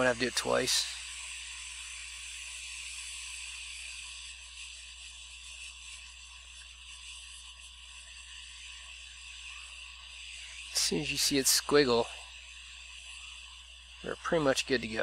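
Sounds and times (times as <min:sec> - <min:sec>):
fume extractor fan: 0:00.0 - 0:15.0
hot air blowing hiss: 0:00.0 - 0:15.0.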